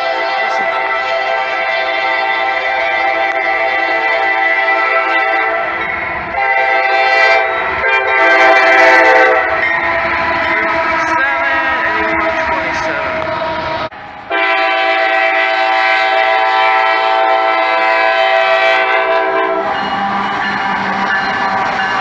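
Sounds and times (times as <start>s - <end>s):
locomotive air horn: 0.0s - 22.0s.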